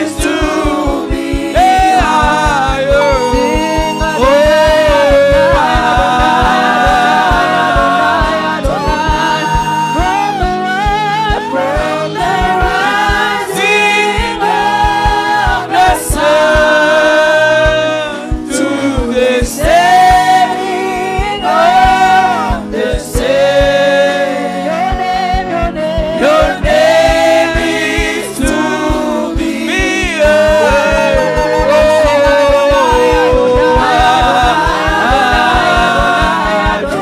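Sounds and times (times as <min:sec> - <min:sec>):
congregation singing gospel song: 0:00.0 - 0:37.0
steady drum beat: 0:00.0 - 0:37.0.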